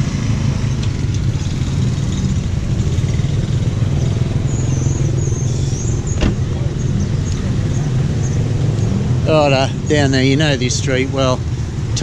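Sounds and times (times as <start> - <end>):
scooter and motorbike engines: 0.0 - 12.0.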